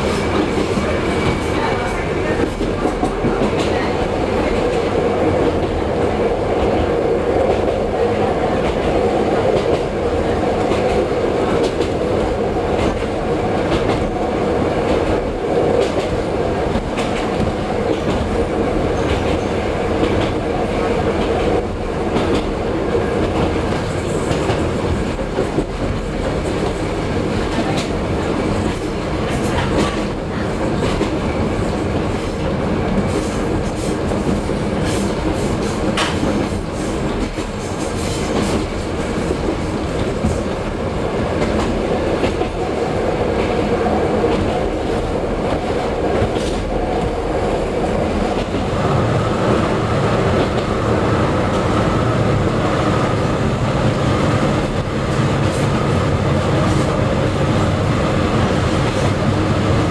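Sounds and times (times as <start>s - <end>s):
diesel railcar engine running: 0.0s - 59.9s.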